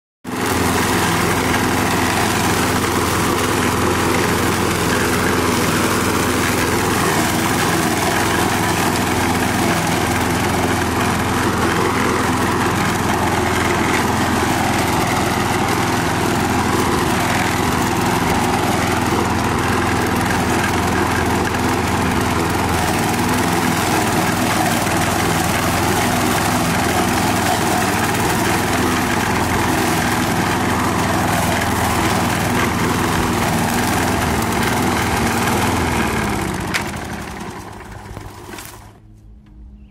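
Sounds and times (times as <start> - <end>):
lawn mower engine running: 0.2 - 39.9.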